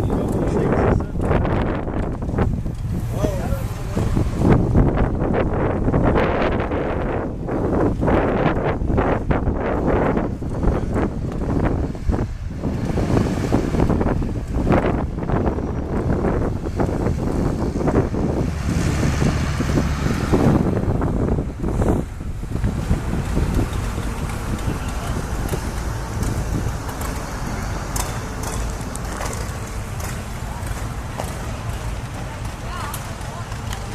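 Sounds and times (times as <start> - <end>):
low rumble of motor vehicle: 0.0 - 33.9
wind buffeting microphone: 0.0 - 33.9.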